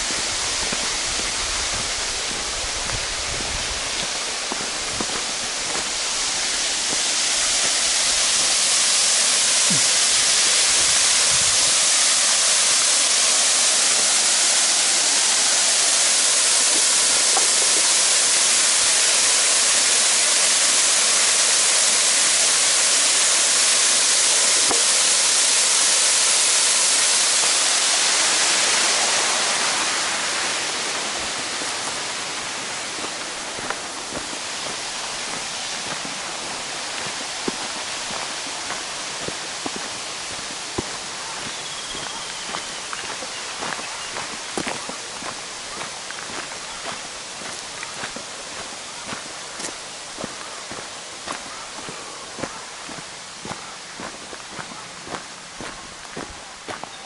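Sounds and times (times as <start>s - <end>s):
rushing water hiss: 0.0s - 57.0s.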